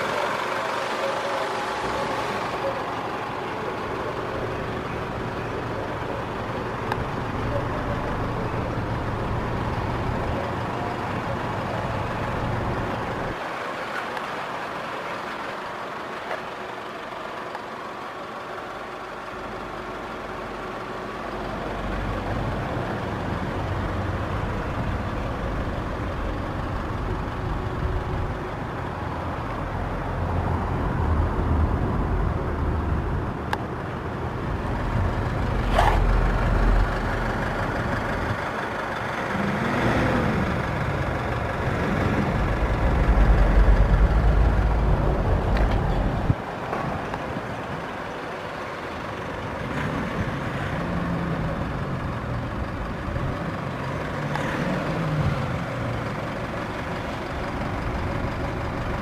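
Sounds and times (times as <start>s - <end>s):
motor vehicle rumble: 0.0s - 59.0s.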